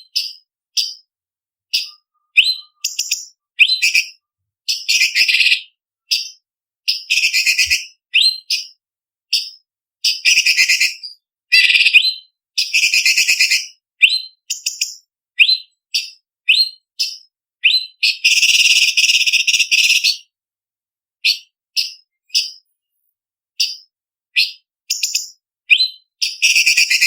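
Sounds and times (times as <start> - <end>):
bird singing whistled notes: 1.7 - 20.3, 21.2 - 22.6, 23.6 - 27.0.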